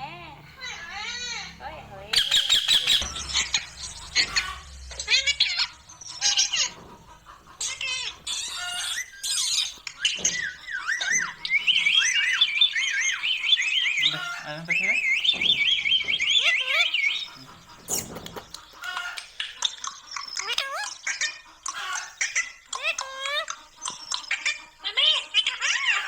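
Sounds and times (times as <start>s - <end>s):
parakeet squawking and chattering: 0.0s - 26.0s.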